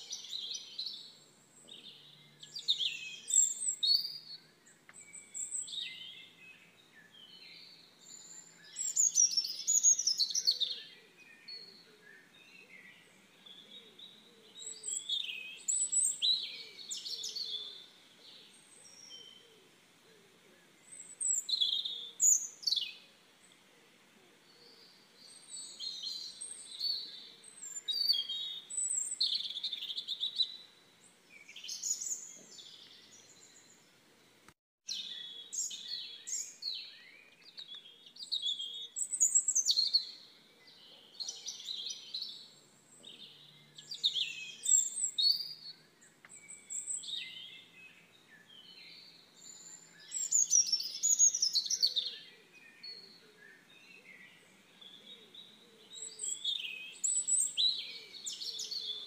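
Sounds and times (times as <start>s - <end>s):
songbirds chirping and singing: 0.0s - 59.0s.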